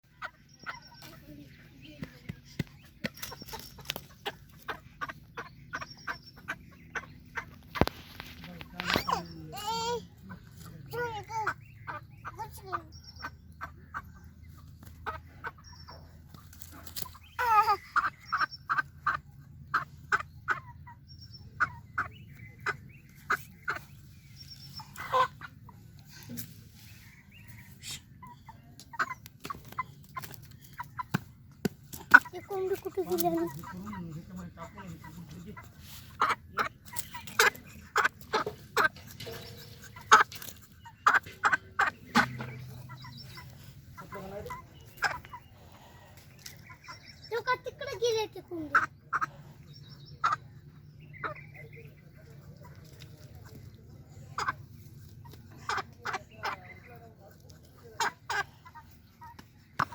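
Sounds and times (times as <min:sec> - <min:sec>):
chicken clucking: 0:00.0 - 0:59.9.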